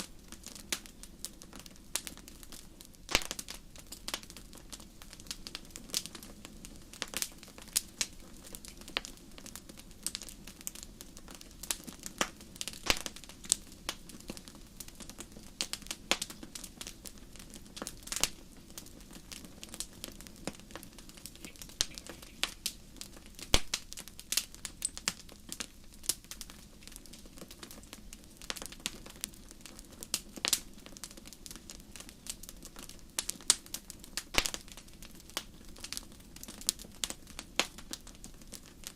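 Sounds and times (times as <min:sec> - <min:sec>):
low rumble of burning: 0:00.0 - 0:38.9
wood fire crackling: 0:00.0 - 0:38.9.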